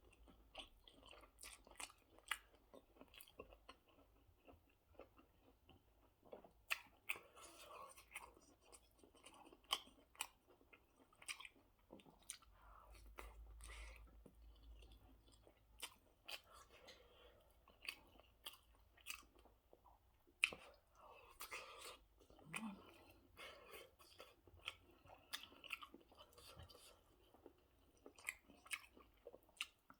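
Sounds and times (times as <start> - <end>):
chewing food: 0.0 - 29.9.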